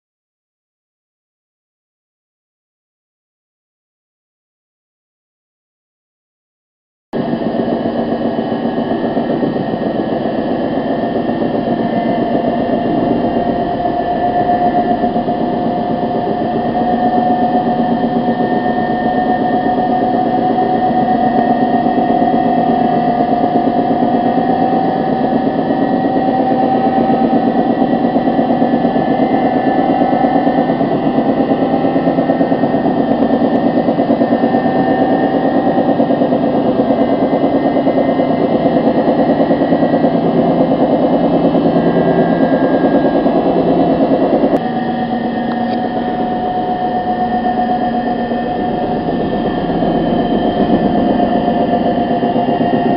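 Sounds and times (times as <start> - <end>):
washing machine running: 7.2 - 52.9.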